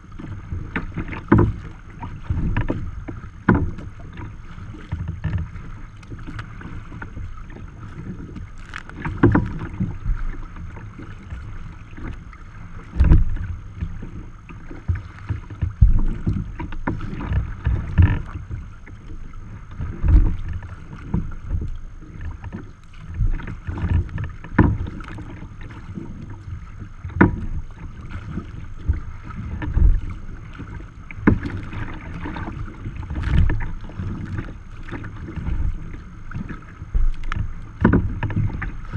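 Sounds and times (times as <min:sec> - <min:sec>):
low thumps of bow on waves: 0:00.0 - 0:38.9
water slapping against kayak hull: 0:00.0 - 0:38.9.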